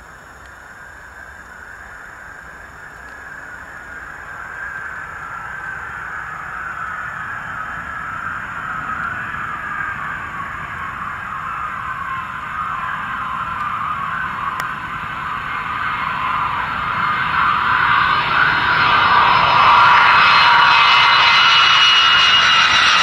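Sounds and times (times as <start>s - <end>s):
jet engines whining: 0.0s - 23.0s.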